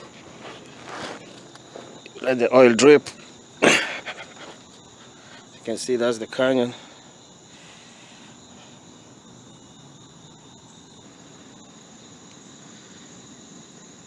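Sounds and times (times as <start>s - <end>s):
high-pitched insect chirring: 0.0s - 14.0s
low hiss: 0.0s - 14.0s.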